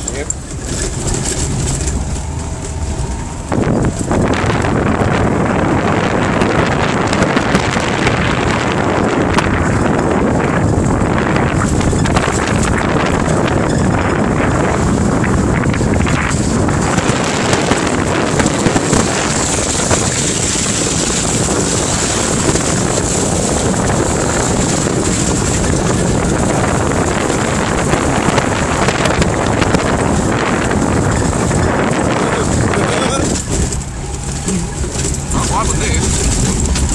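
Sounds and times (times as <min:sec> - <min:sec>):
vehicle engine and tyre noise: 0:00.0 - 0:36.9
wind buffeting microphone: 0:00.0 - 0:36.9.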